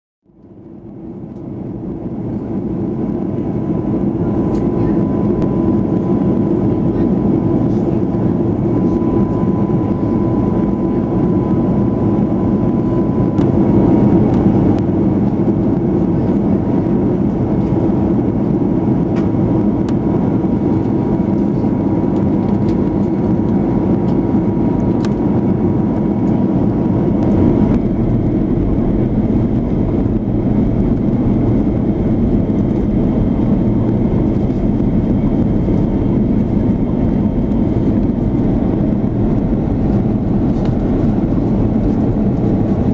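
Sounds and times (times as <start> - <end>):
airplane cabin rush: 1.3 - 42.9.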